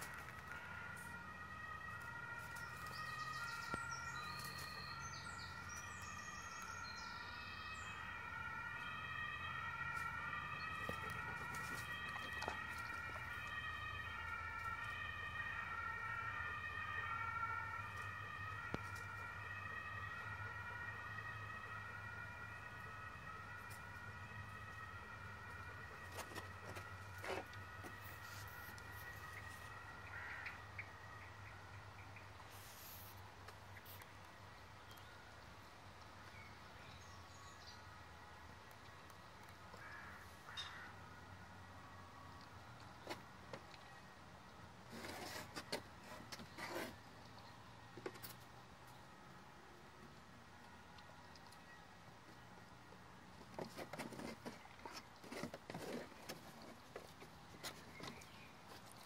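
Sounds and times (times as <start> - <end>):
distant two-tone siren: 0.0 - 59.0.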